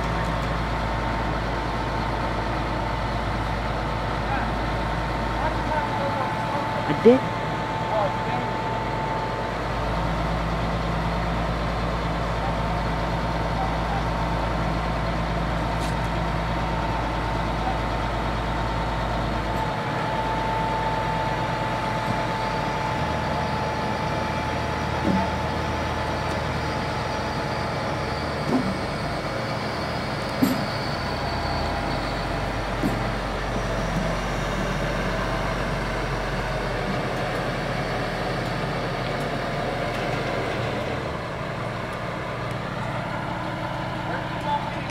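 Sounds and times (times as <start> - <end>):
truck engine running under load: 0.0 - 44.9.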